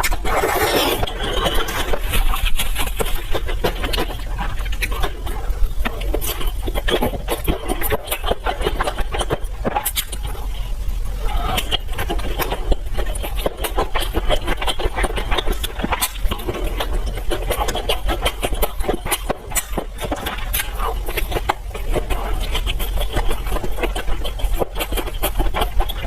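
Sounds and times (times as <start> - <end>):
wet chewing and smacking: 0.0 - 26.0.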